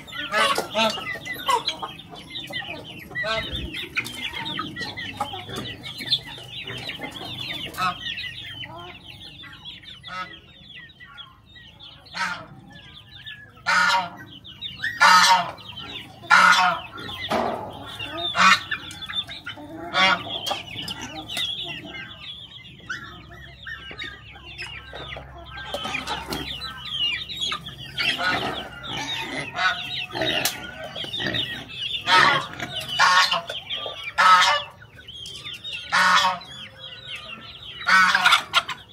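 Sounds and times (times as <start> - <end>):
chickens clucking: 0.0 - 38.9
chickens squawking: 0.0 - 38.9.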